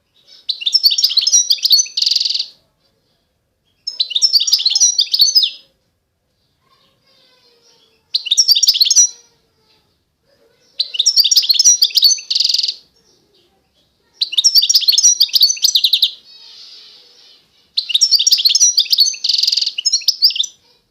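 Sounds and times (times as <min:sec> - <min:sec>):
songbird chirping and trilling: 0:00.0 - 0:20.9.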